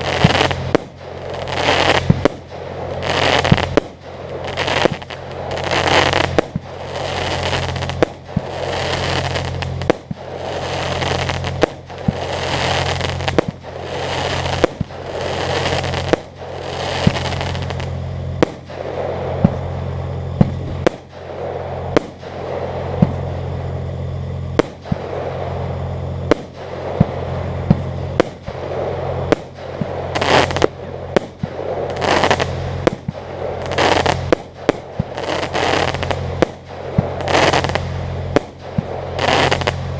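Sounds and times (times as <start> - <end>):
fireworks bursting with crackling: 0.0 - 39.9
steady low hum: 0.0 - 39.9.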